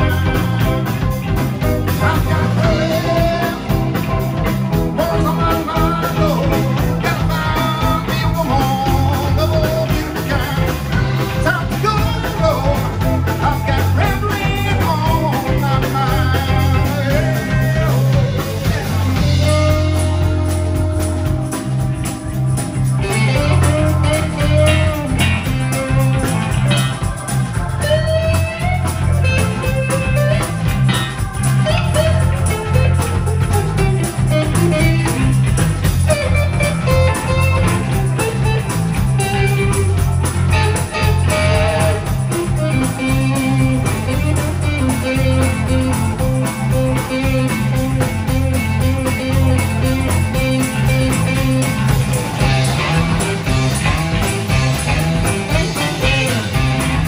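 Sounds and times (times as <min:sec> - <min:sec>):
man singing lead: 0:00.0 - 0:21.9, 0:23.0 - 0:38.7, 0:40.5 - 0:53.7, 0:55.2 - 0:57.0
live rock band playing: 0:00.0 - 0:57.0.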